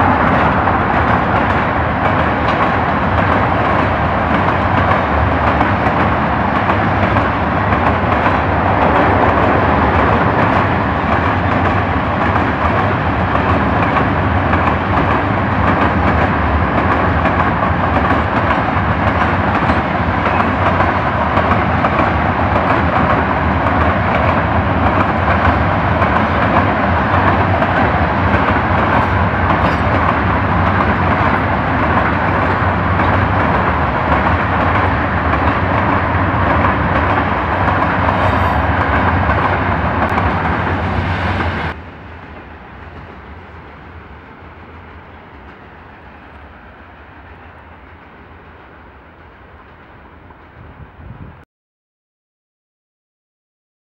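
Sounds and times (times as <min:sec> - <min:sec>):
train wheels on rails: 0:00.0 - 0:51.4.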